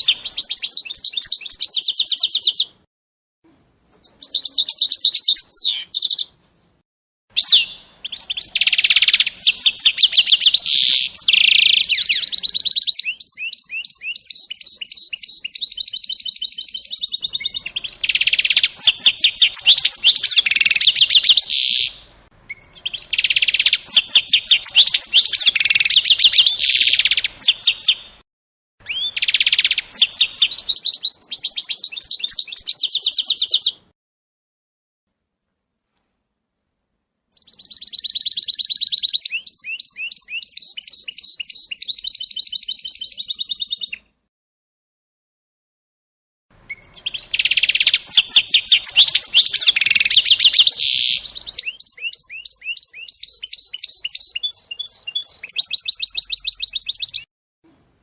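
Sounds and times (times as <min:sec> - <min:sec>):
songbird trilling and chirping: 0:00.0 - 0:02.8, 0:03.9 - 0:06.3, 0:07.4 - 0:28.2, 0:28.8 - 0:33.8, 0:37.3 - 0:44.1, 0:46.7 - 0:57.3.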